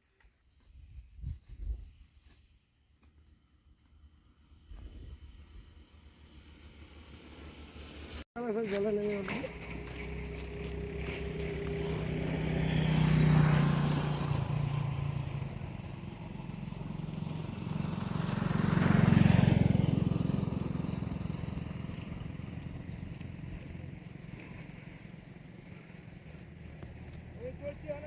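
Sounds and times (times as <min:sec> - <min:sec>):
motor vehicles passing by: 0:04.4 - 0:28.0.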